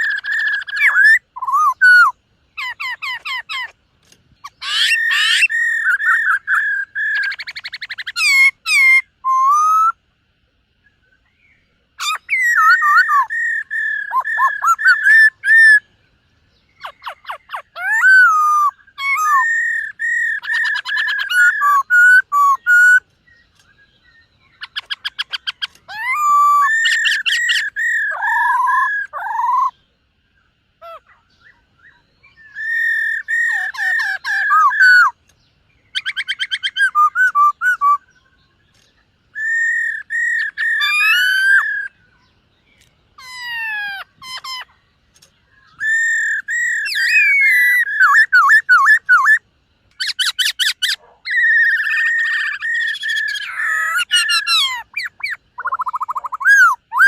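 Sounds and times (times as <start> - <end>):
bird singing whistles and trills: 0.0 - 10.0, 10.8 - 57.0.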